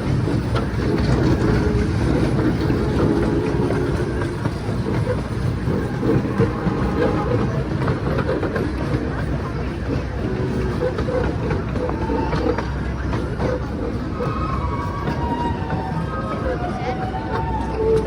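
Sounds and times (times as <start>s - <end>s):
miniature train rumbling and rattling: 0.0s - 18.0s.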